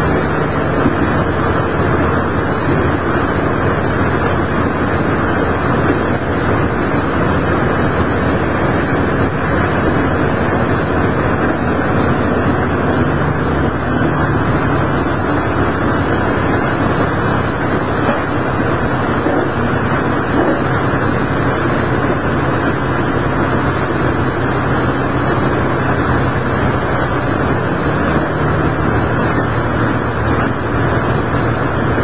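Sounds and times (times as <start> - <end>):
diesel engine drone: 0.0 - 32.0
wheels rumbling on rails: 0.0 - 32.0.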